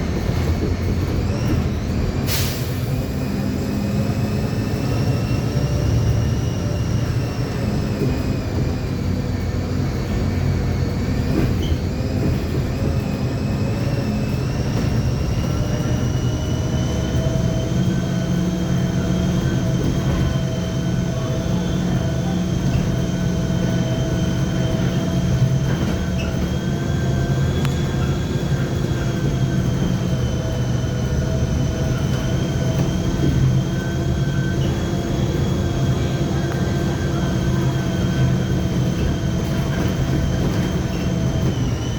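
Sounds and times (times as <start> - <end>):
bus differential whining: 0.0 - 41.9
engine and road rumble: 0.0 - 41.9.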